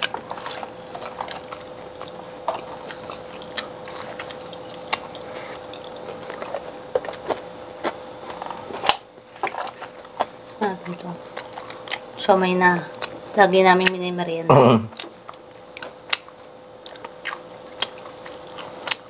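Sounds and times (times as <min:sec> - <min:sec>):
person chewing food: 0:00.0 - 0:12.2, 0:14.9 - 0:19.0
faint steady hum: 0:00.0 - 0:19.0.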